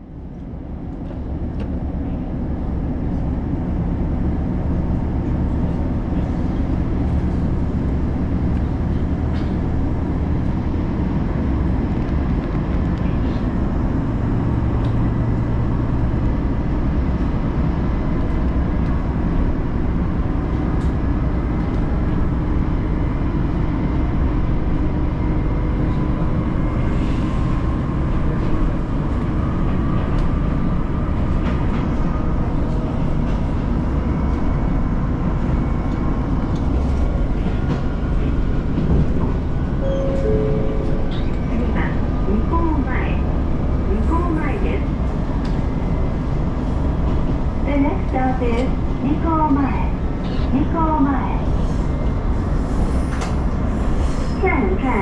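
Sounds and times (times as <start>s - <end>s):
railcar engine and wheels rumbling: 0.0s - 55.0s.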